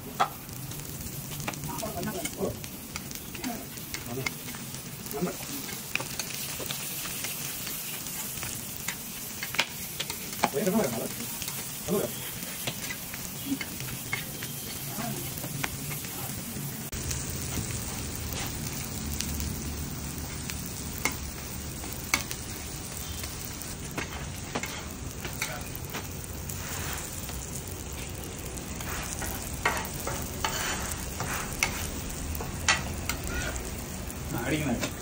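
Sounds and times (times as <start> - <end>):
flatbread sizzling on griddle: 0.0 - 35.0.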